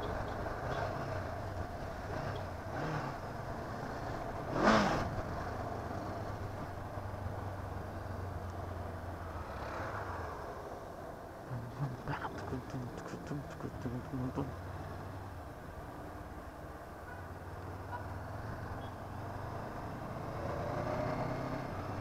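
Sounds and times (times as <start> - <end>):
wind and road noise: 0.0 - 22.0.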